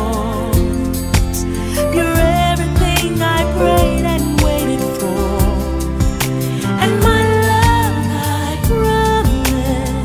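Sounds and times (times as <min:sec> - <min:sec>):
song with steady beat: 0:00.0 - 0:10.0.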